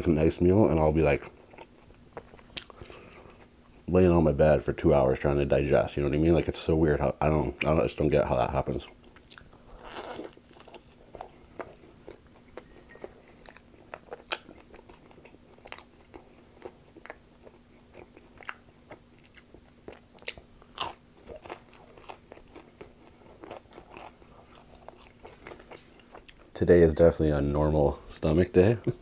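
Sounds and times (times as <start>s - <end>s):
faint steady hum: 0.0s - 29.0s
chewing crunchy pizza: 0.2s - 4.0s, 7.3s - 27.0s.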